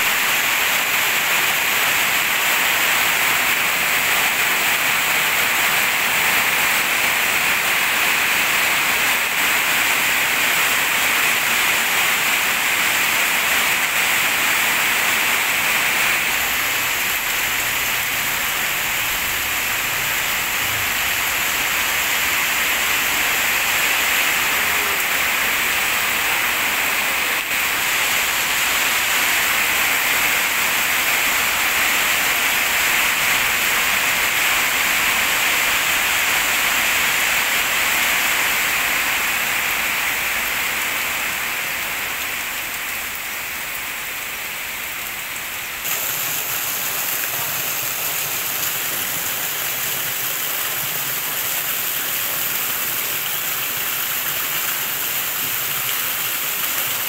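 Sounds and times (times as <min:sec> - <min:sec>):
heavy rain splashing into water: 0:00.0 - 0:57.0.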